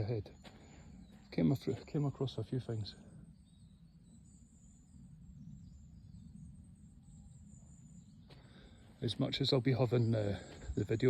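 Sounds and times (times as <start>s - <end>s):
faint high chirps: 0.0s - 11.0s.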